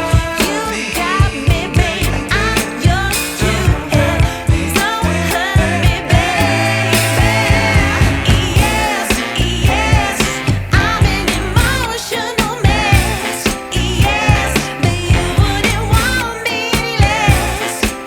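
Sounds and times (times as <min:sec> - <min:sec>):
bass: 0:00.0 - 0:18.0
drum beat: 0:00.0 - 0:18.0
person singing: 0:00.0 - 0:18.0.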